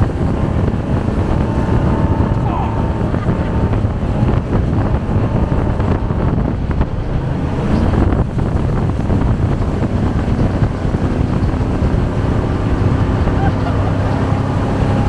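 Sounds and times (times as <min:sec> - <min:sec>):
jet boat engine running: 0:00.0 - 0:15.0
wind buffeting microphone: 0:00.0 - 0:15.0.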